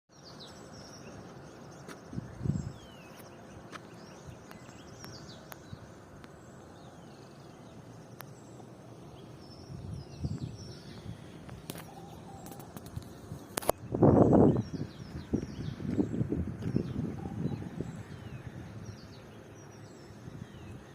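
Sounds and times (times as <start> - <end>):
outdoor background hiss: 0.1 - 20.9
small birds chirping: 0.1 - 20.9.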